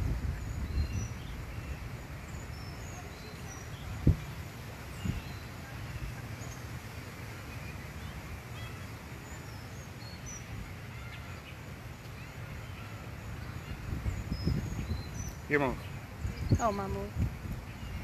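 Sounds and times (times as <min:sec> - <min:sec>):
birds chirping: 0:00.0 - 0:18.0
low outdoor rumble: 0:00.0 - 0:18.0.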